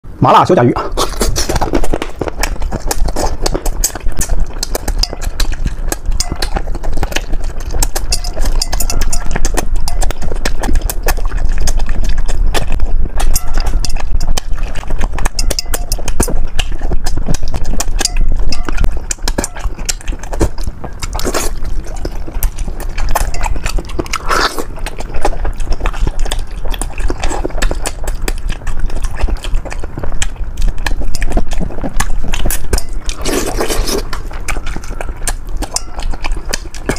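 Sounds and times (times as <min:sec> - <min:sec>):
sucking and slurping: 0:00.8 - 0:36.9
smacking mouth clicks: 0:00.9 - 0:36.9.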